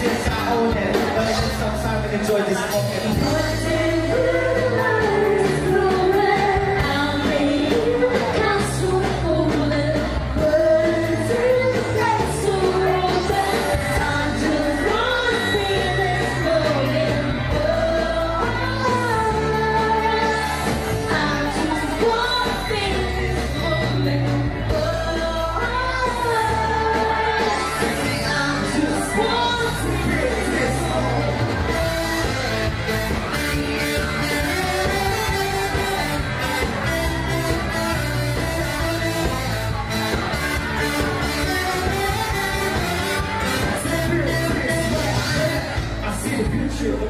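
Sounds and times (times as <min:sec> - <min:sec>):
bass: 0:00.0 - 0:47.0
drums: 0:00.0 - 0:47.0
electric guitars: 0:00.0 - 0:47.0
keyboard: 0:00.0 - 0:47.0
singers: 0:00.0 - 0:47.0.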